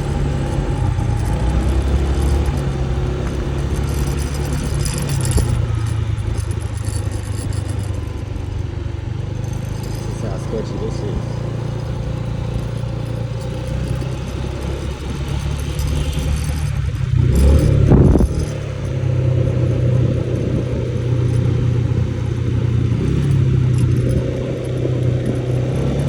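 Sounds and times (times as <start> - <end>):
motorbike engine running: 0.0 - 26.0.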